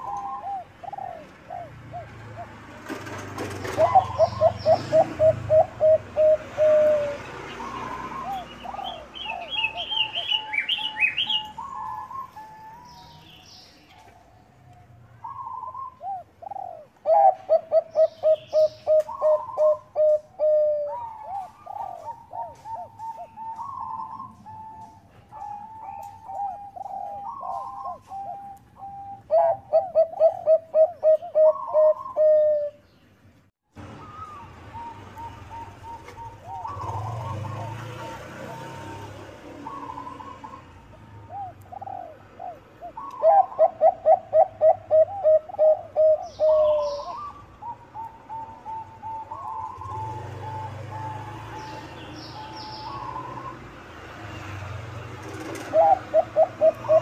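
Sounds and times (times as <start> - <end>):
dove cooing: 0.0 - 32.8, 34.0 - 53.7, 55.2 - 57.0.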